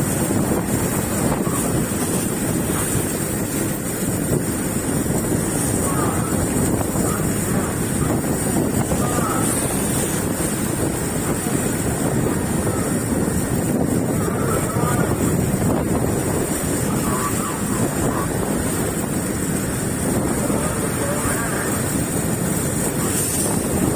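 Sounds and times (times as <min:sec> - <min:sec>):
boat engine running: 0:00.0 - 0:23.9
water rushing past: 0:00.0 - 0:23.9
wind buffeting microphone: 0:00.0 - 0:23.9.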